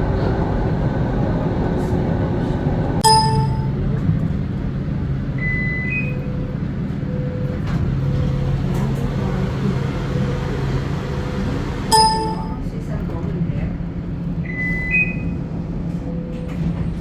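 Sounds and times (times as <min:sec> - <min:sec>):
light rail train humming: 0:00.0 - 0:17.0.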